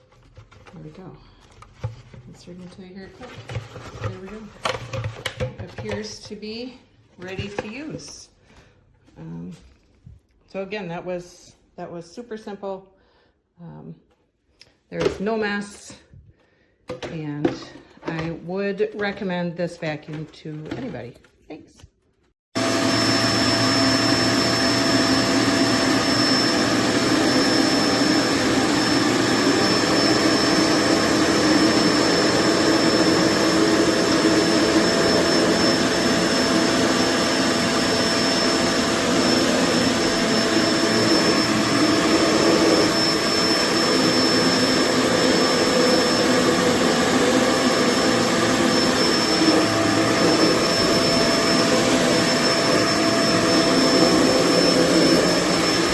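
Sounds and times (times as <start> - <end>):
vacuum cleaner running: 0.0 - 8.3, 17.0 - 21.0, 22.6 - 55.9.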